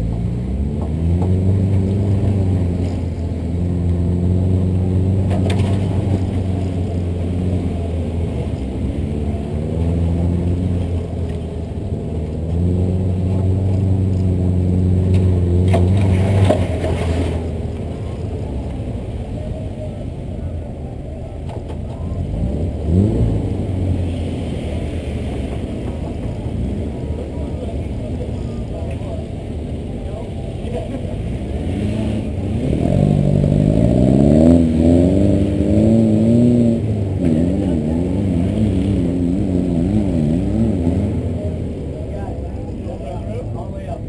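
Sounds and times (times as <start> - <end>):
engine revving off-road: 0.0 - 44.0.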